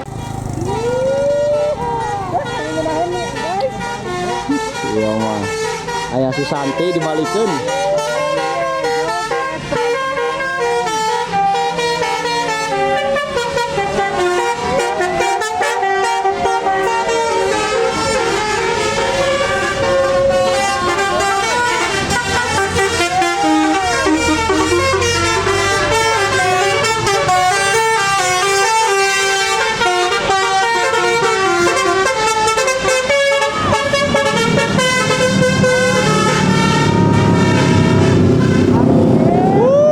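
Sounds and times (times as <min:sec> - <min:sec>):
musical bus horn tune: 0:00.0 - 0:39.6.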